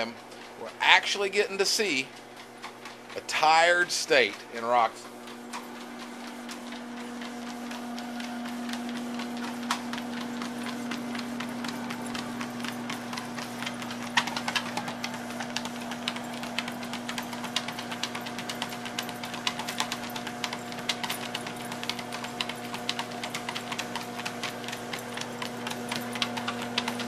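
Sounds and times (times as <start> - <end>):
treadmill motor hum: 0.0 - 27.0
dog nails clicking: 3.8 - 27.0.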